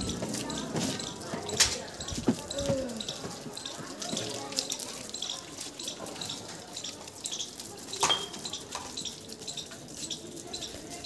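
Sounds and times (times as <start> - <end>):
water splashing from a hose: 0.0 - 11.0.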